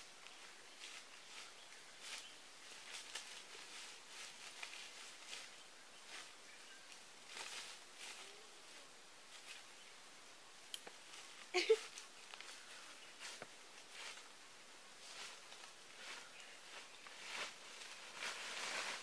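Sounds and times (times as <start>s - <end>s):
leaves and twigs rustling: 0.0s - 19.0s
low outdoor hiss: 0.0s - 19.0s
footsteps in leaf litter: 0.2s - 9.6s, 11.0s - 19.0s.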